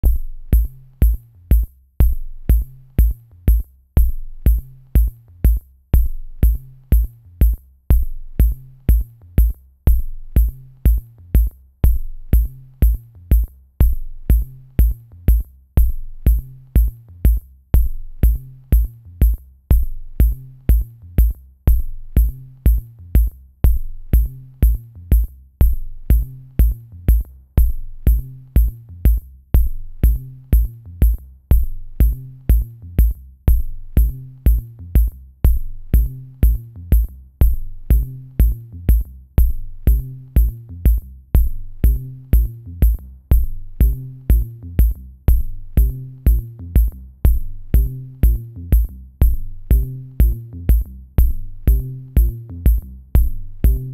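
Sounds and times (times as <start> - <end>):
electronic music with drum machine: 0.0 - 53.9.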